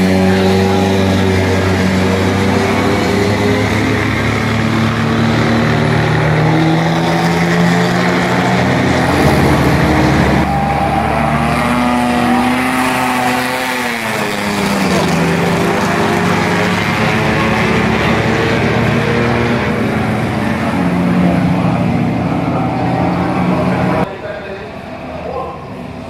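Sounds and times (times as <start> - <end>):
racing car engines accelerating: 0.0 - 26.0.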